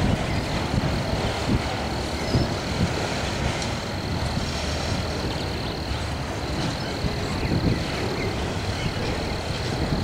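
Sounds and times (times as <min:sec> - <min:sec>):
freight cars rumbling on rails: 0:00.0 - 0:10.0.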